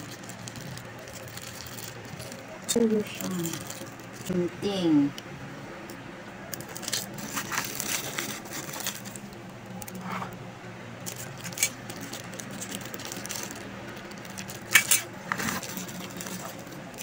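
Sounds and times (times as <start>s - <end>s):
plastic wrapping crinkling: 0.0s - 4.4s, 6.5s - 10.4s, 11.0s - 17.0s.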